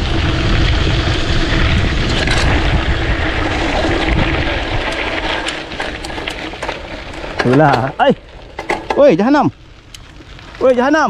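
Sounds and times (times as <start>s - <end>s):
wind buffeting microphone: 0.0s - 10.7s
bike clicks and rattles: 0.0s - 11.0s
tyres on loose dirt and stones: 0.0s - 11.0s.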